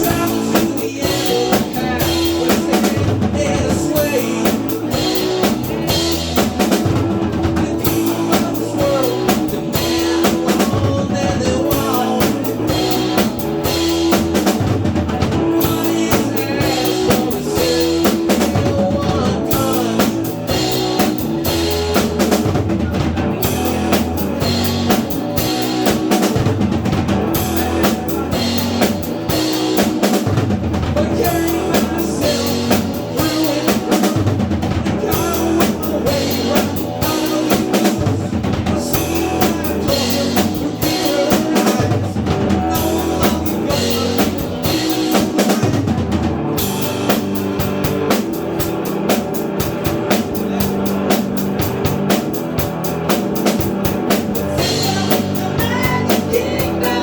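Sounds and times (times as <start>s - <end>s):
drum kit beat: 0.0s - 57.0s
live band playing: 0.0s - 57.0s.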